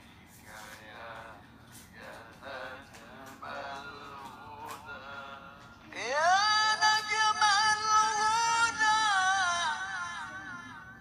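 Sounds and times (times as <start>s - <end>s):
man reciting in a high voice: 0.4s - 11.0s.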